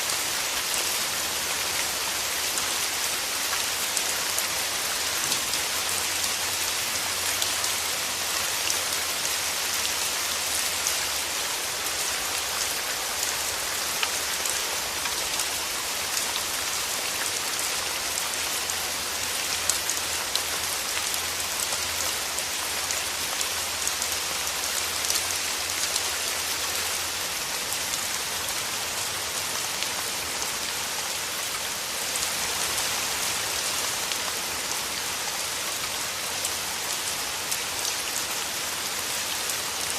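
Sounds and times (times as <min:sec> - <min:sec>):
rain falling through trees: 0:00.0 - 0:39.9.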